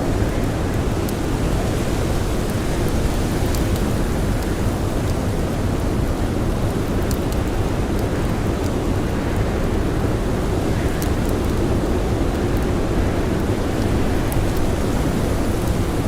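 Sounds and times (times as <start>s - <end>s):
campfire crackling: 0.1s - 16.0s.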